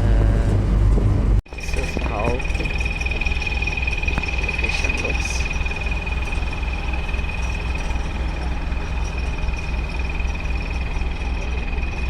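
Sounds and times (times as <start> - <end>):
constant high whine: 0.0 - 12.0
engine running: 0.0 - 12.0.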